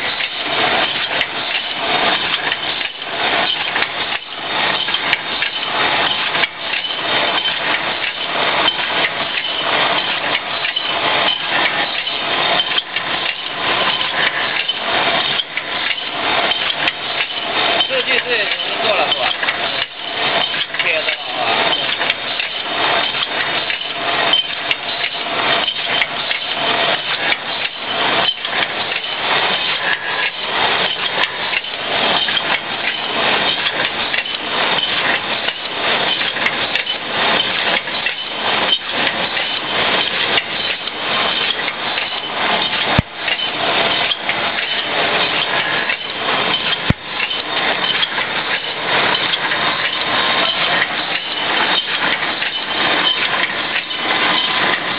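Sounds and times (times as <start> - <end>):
printing machine clattering: 0.0 - 54.9.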